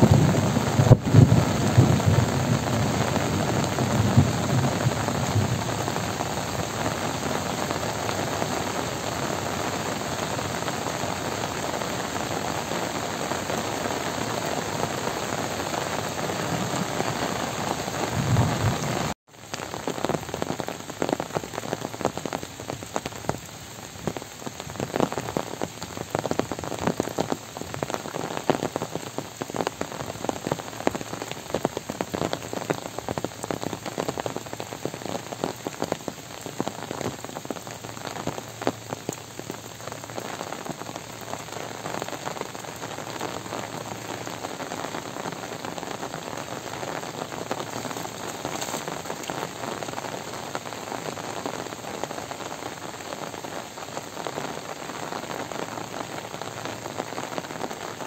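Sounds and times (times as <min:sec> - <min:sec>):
rain on wet ground: 0:00.0 - 0:58.0
rain pattering on umbrella: 0:00.0 - 0:58.0.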